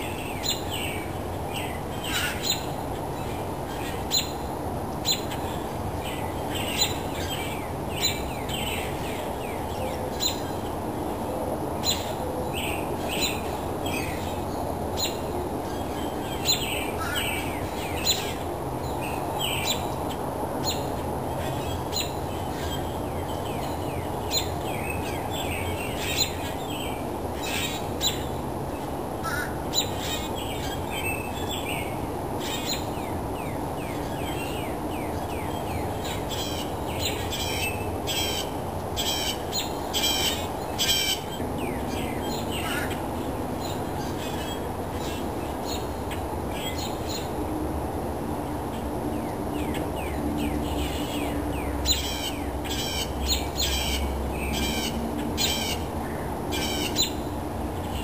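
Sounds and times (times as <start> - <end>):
birds calling: 0.0 - 10.8, 11.8 - 47.3, 49.6 - 58.0.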